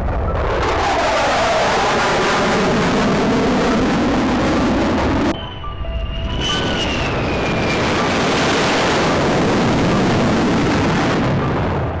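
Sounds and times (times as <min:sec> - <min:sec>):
jet engine whine: 0:00.0 - 0:12.0
loud rushing noise: 0:00.0 - 0:12.0.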